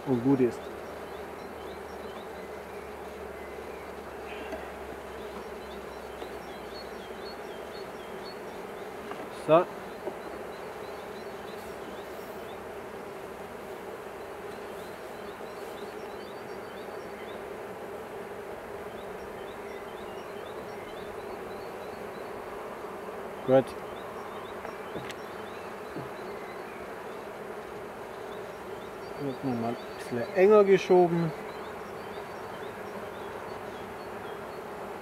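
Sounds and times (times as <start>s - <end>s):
bees buzzing: 0.0s - 35.0s.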